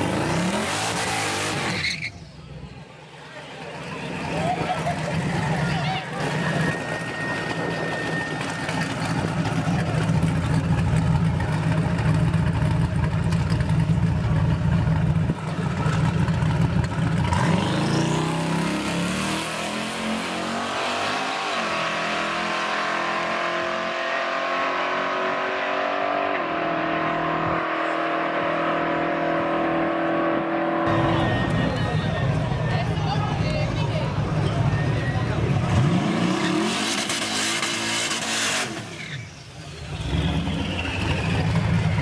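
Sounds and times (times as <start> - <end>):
drag car engine rumbling and accelerating: 0.0 - 42.0.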